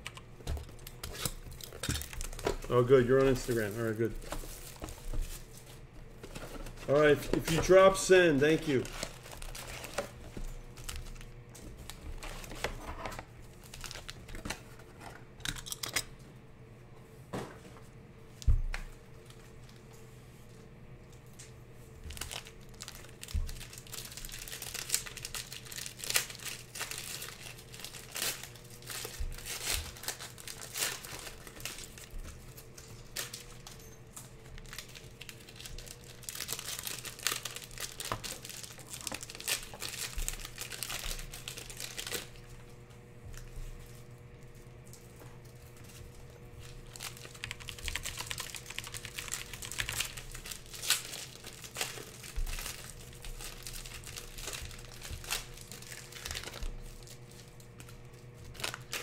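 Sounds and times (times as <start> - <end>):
foil wrappers crinkling: 0.6 - 15.0, 21.3 - 59.0.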